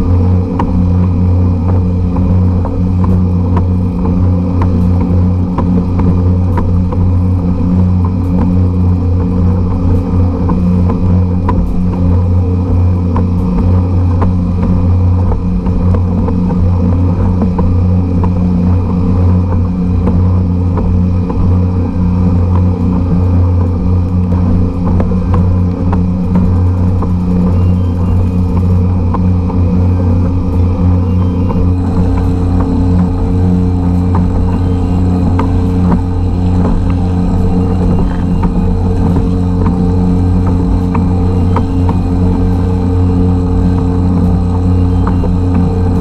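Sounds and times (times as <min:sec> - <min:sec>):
outboard engine running: 0:00.0 - 0:46.0
water splashing along hull: 0:00.0 - 0:46.0.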